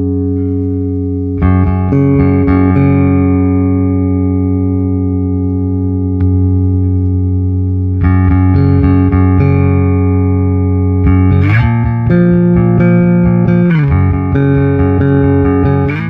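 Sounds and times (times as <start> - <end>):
electric bass guitar notes sliding: 0.0 - 16.0.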